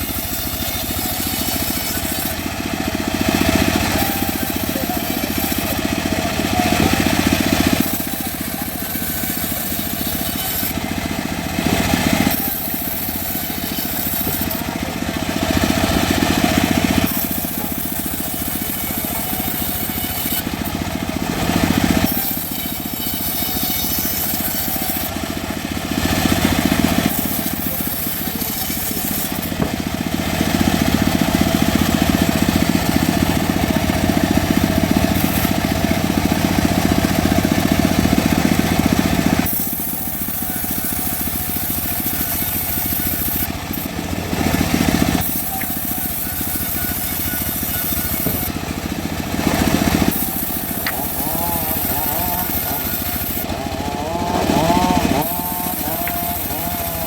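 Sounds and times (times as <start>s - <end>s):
sawmill blade sawing wood: 0.0s - 57.0s.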